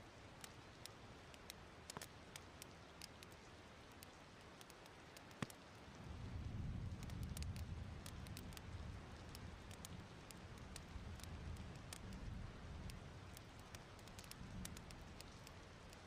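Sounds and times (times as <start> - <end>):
faint steady hiss: 0.0 - 16.0
wood fire crackling: 0.0 - 16.0.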